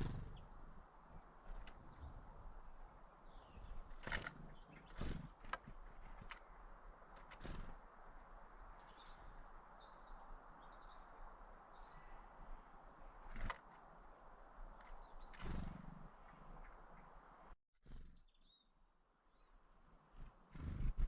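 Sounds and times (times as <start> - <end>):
steady outdoor hiss: 0.0 - 17.6, 18.6 - 21.0
small birds chirping: 0.0 - 21.0.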